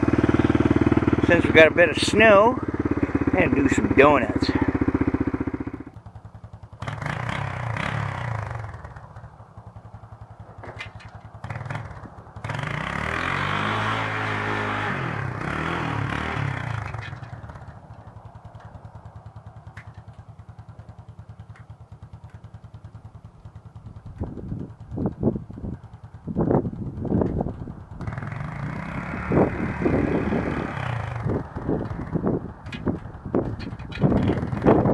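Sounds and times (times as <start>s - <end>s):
atv engine revving and idling: 0.0s - 34.9s.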